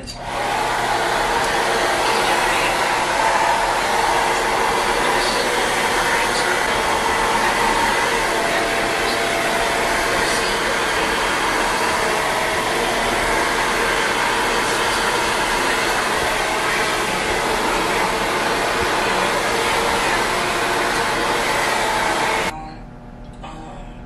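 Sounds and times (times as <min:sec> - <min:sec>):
hair dryer blowing: 0:00.2 - 0:22.5.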